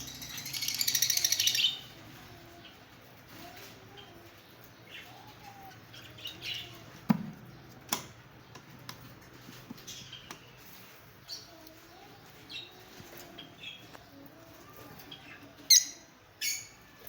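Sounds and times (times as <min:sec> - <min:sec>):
lovebirds chirping: 0:00.0 - 0:16.9.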